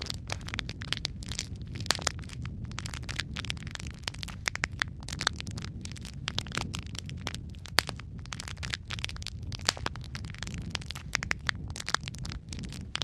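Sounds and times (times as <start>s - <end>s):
low rumble of burning logs: 0.0s - 13.0s
wood fire crackling and popping: 0.0s - 13.0s.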